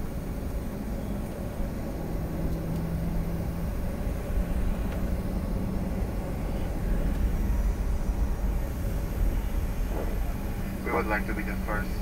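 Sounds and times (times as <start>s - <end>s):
airliner cabin rumble: 0.0s - 12.0s
low hum: 0.0s - 12.0s.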